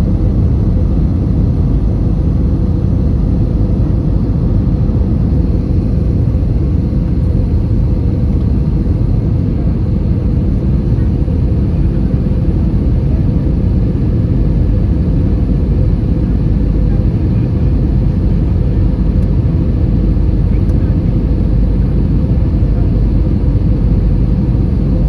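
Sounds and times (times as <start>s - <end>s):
airplane cabin engine rumble: 0.0s - 25.0s.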